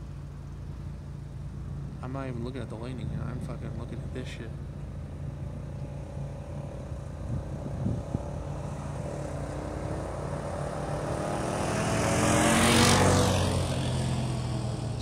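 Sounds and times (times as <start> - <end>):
vehicle passing by: 2.0 - 15.0.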